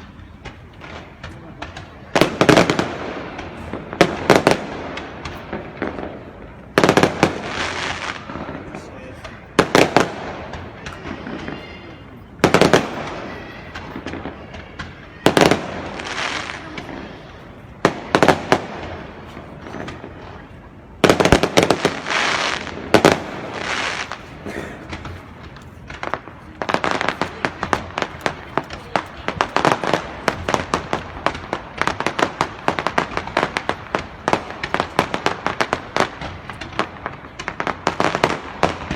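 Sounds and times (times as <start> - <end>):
crackling hiss of firework stars: 0.0 - 38.9.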